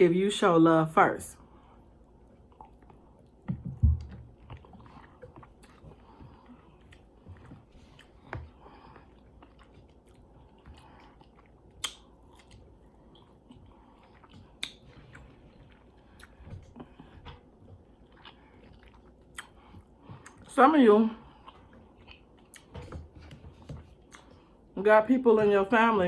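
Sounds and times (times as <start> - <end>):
chewing food with wet mouth sounds: 1.4 - 24.8.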